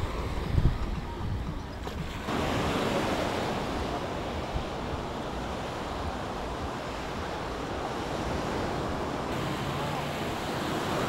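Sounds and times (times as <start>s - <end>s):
wind noise on microphone: 0.0s - 9.4s
small waves washing on sand: 1.8s - 11.0s.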